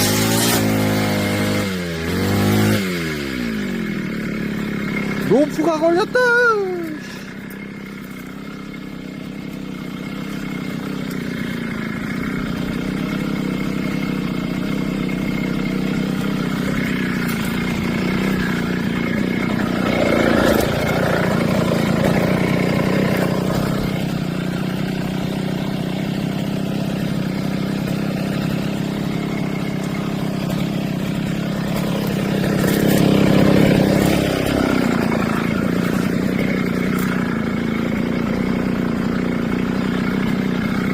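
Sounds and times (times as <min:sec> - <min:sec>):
brush cutter engine: 0:00.0 - 0:40.9.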